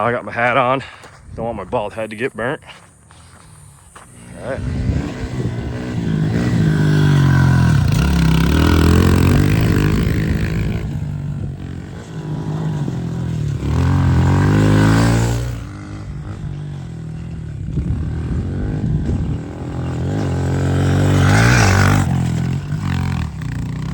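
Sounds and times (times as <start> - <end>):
small motorbike engine revving: 3.1 - 23.9.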